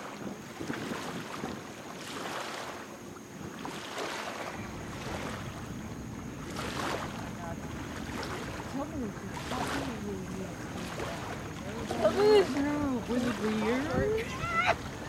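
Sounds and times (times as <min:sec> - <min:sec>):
wind rumbling on microphone: 0:00.0 - 0:02.6, 0:03.2 - 0:15.0
small waves washing against shore: 0:00.0 - 0:15.0.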